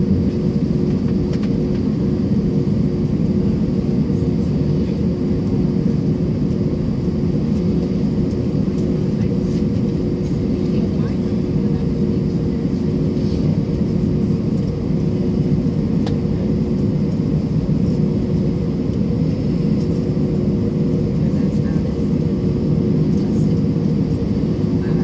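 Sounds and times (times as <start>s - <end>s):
jet cabin low rumble: 0.0s - 25.0s
steady hum tones: 0.0s - 25.0s.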